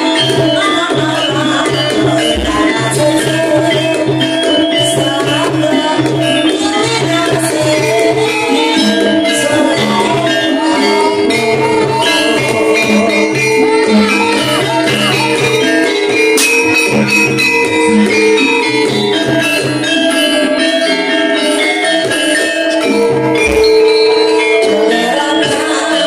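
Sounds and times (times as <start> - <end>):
hand drum rhythm: 0.0 - 26.0
metallophone notes: 0.0 - 26.0.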